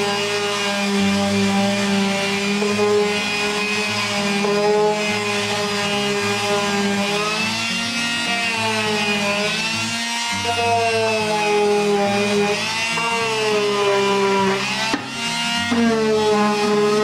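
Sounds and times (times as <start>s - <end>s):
electric sander on wood: 0.0s - 17.0s.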